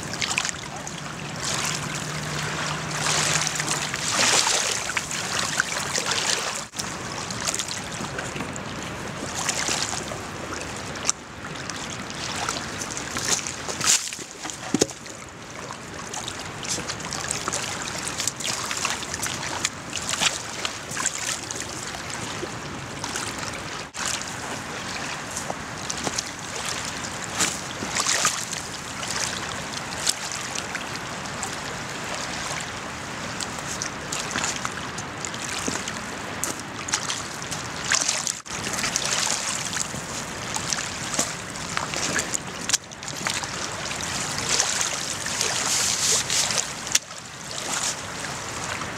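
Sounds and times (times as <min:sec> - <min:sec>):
water washing on stony shore: 0:00.0 - 0:48.9.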